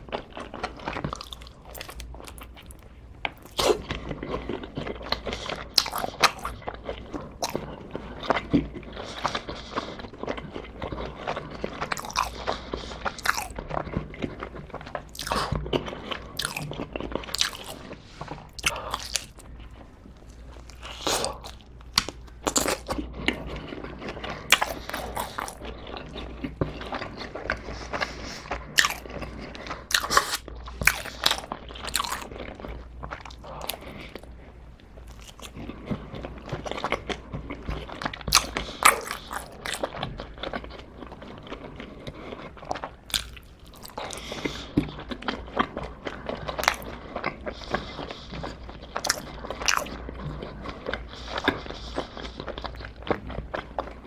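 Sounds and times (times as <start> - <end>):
person chewing crunchy pizza: 0.0 - 54.0.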